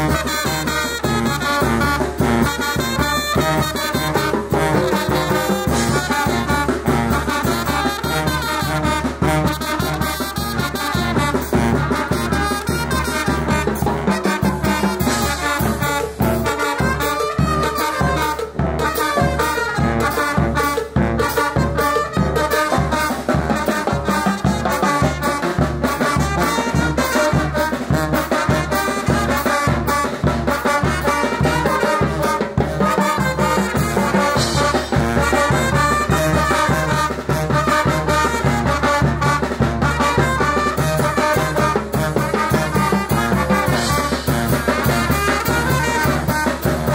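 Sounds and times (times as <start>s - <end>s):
bass drum cymbal and timbales beat: 0.0s - 46.9s
brass band playing: 0.0s - 46.9s
trombones and sousaphone: 0.0s - 46.9s.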